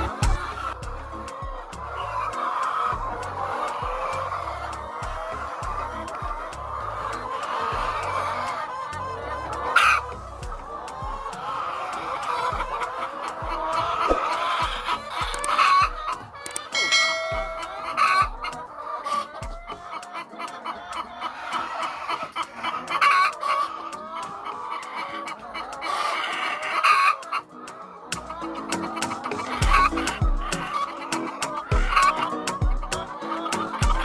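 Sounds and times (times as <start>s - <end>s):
hens clucking: 0.0s - 34.0s
hens squawking: 0.0s - 34.0s.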